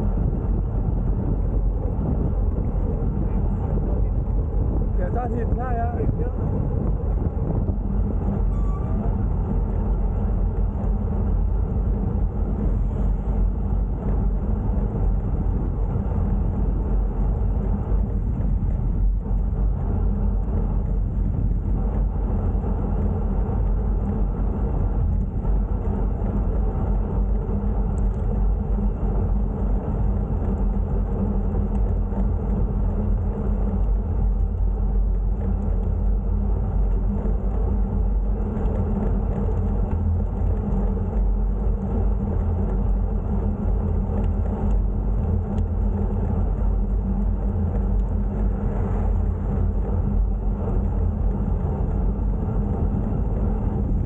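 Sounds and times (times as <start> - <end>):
road noise from bicycle: 0.0 - 54.0
wind rumble on microphone: 0.0 - 54.0.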